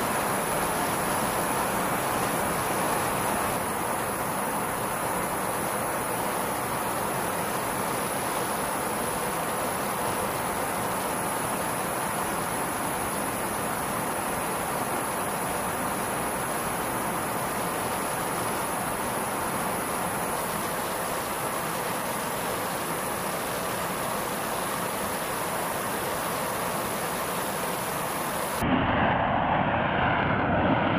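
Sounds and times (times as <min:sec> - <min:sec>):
thin high whine: 0:00.0 - 0:29.4
aircraft airflow and engines: 0:00.0 - 0:30.9.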